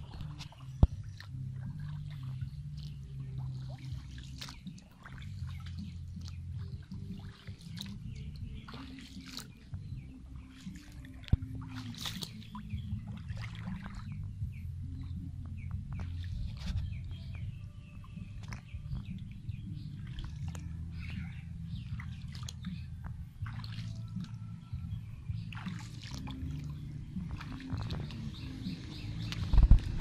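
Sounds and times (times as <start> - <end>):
birds chirping: 0.0 - 30.0
steady low rumble: 0.0 - 30.0.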